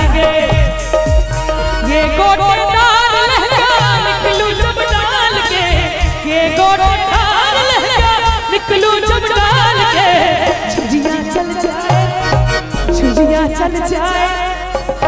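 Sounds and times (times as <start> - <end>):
band accompaniment: 0.0 - 15.0
low drum beat: 0.0 - 15.0
woman singing into microphone: 0.0 - 15.0.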